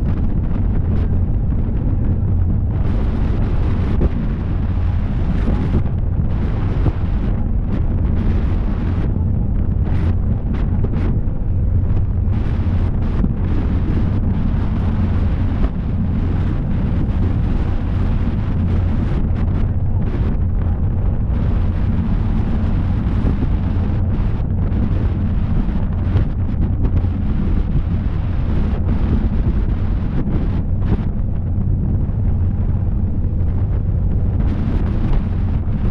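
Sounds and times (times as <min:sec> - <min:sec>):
boat engine rumble: 0:00.0 - 0:35.9
wind buffeting microphone: 0:00.0 - 0:35.9.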